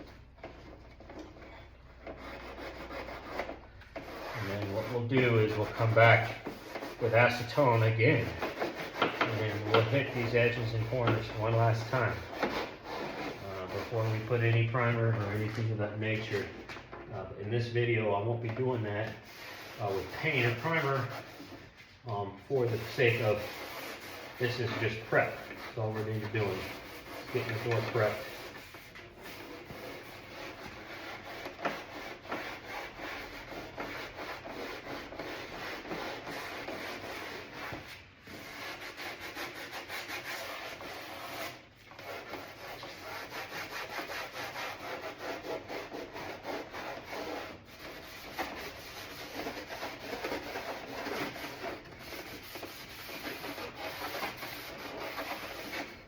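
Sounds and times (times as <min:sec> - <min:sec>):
emery cloth rubbing plastic: 0:00.0 - 0:16.6, 0:18.5 - 0:56.0.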